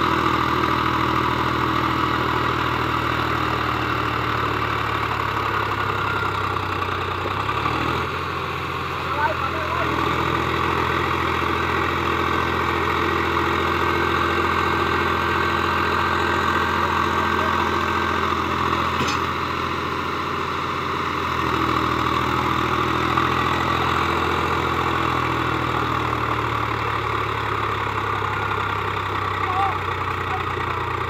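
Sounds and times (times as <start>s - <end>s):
tractor diesel engine idling: 0.0s - 31.0s.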